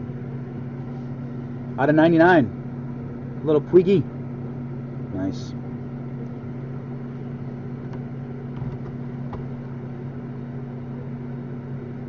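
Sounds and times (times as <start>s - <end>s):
steady low electrical hum: 0.0s - 12.0s.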